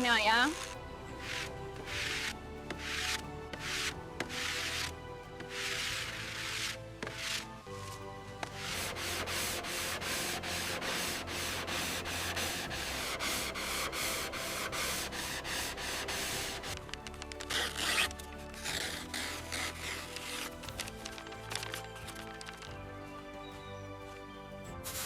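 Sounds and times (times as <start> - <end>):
abrasive rubbing strokes: 0.0 - 22.7
background music: 0.0 - 25.0.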